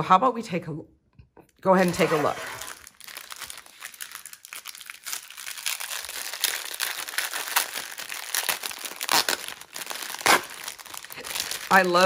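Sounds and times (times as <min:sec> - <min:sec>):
plastic bag crinkling: 0:01.8 - 0:12.0.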